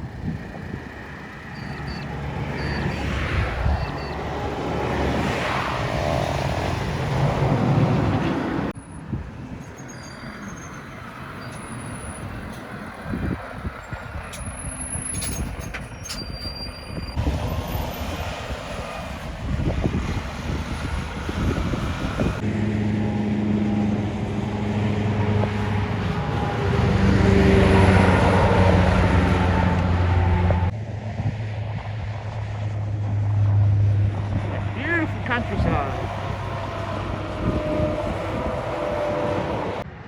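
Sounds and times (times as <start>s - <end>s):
heavy trucks driving past: 0.0s - 40.0s.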